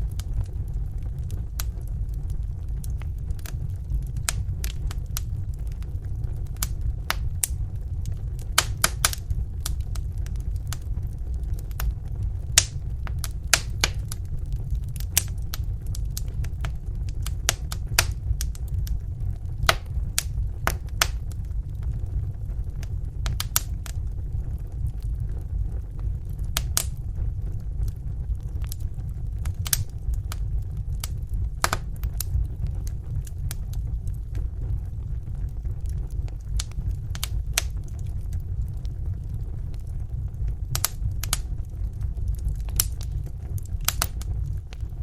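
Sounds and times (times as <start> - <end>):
low rumble of burning fire: 0.0 - 45.0
wood fire pops and snaps: 0.0 - 45.0.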